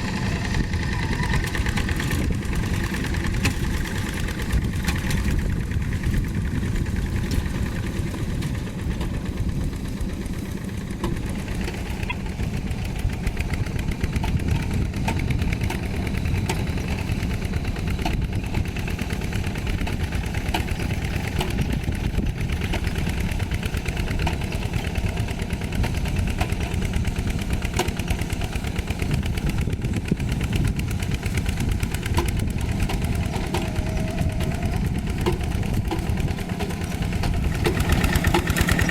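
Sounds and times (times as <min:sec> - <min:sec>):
tractor diesel engine clattering: 0:00.0 - 0:38.9.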